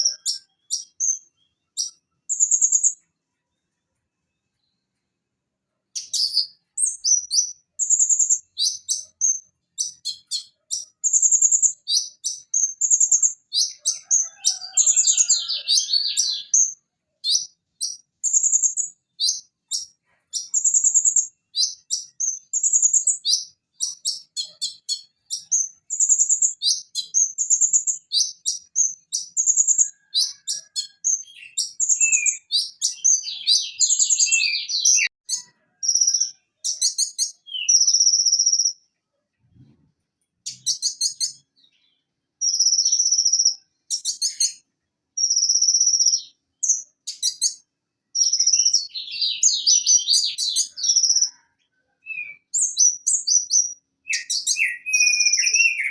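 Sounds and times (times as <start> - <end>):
bird singing high chirps: 0.0 - 3.1, 6.0 - 38.9, 40.4 - 44.6, 45.2 - 47.6, 48.2 - 55.9.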